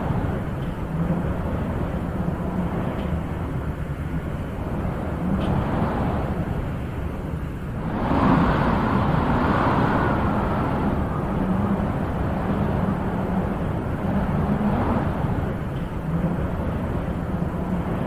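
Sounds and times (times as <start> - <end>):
wind blowing in gusts: 0.0 - 18.0.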